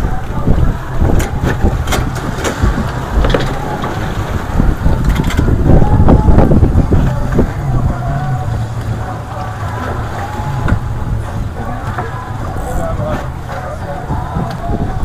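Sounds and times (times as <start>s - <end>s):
outboard motor running: 0.0s - 15.0s
water splashing against hull: 0.0s - 15.0s
wind rumble on microphone: 0.0s - 15.0s.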